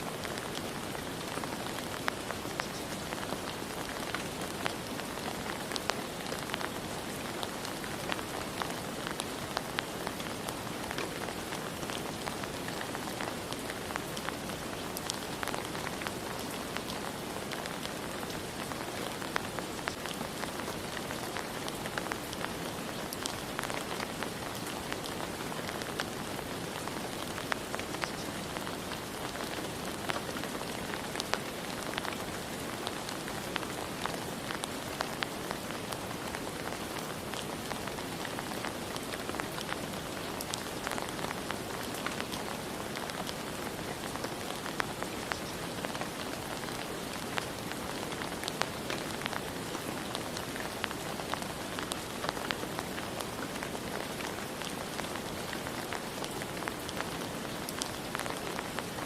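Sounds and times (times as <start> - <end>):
rain hissing with ticking drops: 0.0 - 59.0.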